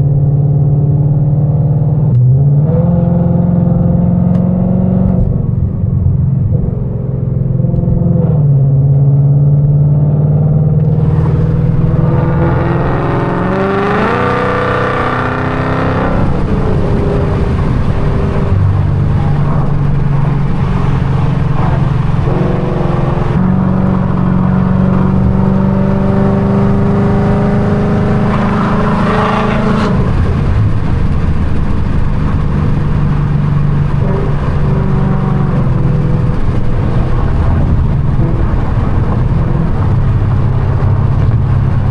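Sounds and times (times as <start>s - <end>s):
loud raspy car exhaust revving: 0.0s - 41.9s.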